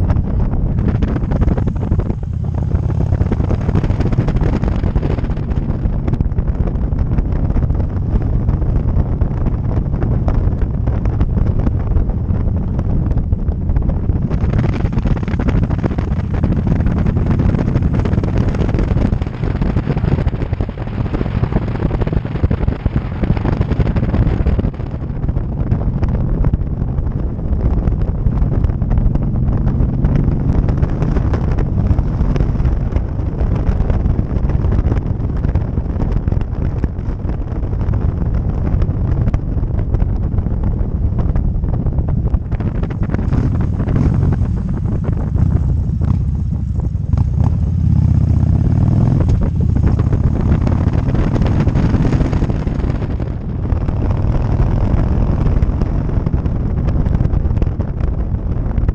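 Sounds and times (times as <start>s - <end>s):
motorcycle engine: 0.0s - 58.3s
road noise: 0.0s - 58.9s
wind buffeting microphone: 0.0s - 58.9s.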